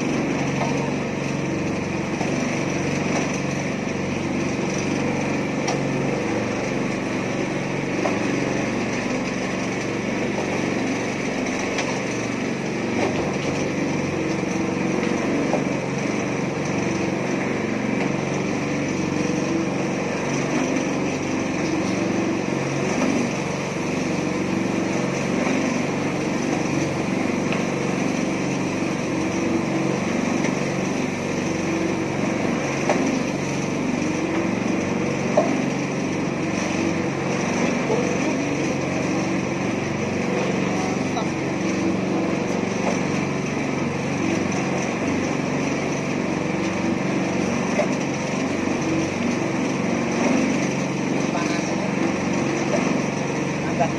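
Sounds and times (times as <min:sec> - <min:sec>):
small petrol engine running: 0:00.0 - 0:53.9.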